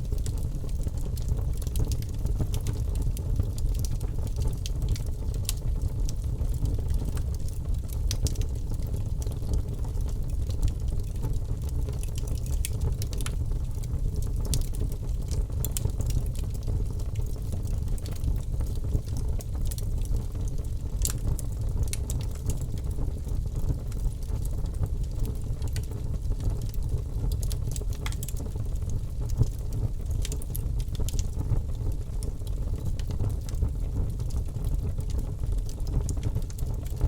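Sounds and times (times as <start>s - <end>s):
logs crackling and popping in fire: 0.0s - 37.0s
low rumble of fire: 0.0s - 37.0s.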